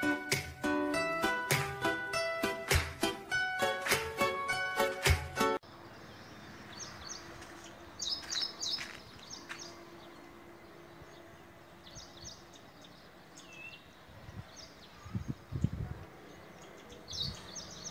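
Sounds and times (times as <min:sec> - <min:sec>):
faint outdoor background noise: 0:00.0 - 0:17.9
birds chirping: 0:01.0 - 0:17.9.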